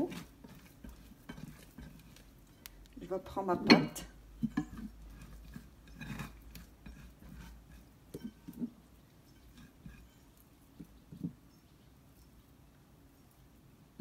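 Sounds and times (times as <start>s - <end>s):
hands squelching sticky dough: 0.0s - 12.6s.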